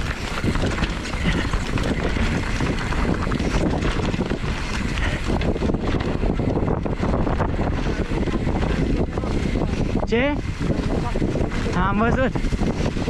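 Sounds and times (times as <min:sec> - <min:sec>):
bike clattering and rattling: 0:00.0 - 0:13.0
wind buffeting microphone: 0:00.0 - 0:13.0.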